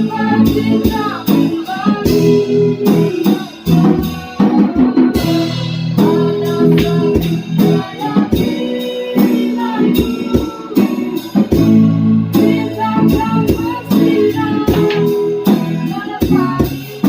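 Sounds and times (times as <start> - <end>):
pop song with guitar and drums: 0.0 - 17.0.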